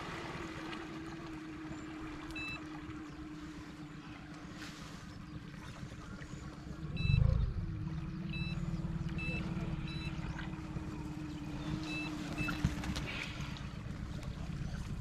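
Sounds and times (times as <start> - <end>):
small outboard motor running: 0.0 - 15.0.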